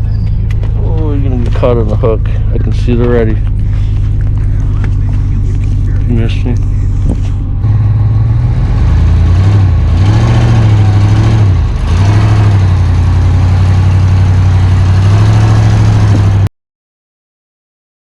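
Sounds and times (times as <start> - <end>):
engine running: 0.0 - 16.5.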